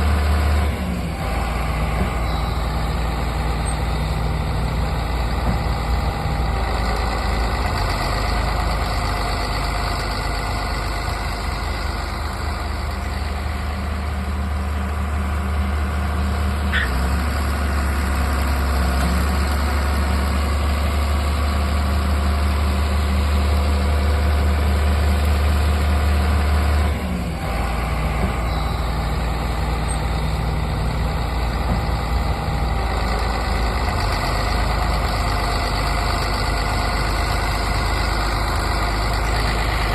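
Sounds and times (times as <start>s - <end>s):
diesel engine drone: 0.0s - 39.9s
machinery mechanical noise: 0.0s - 39.9s.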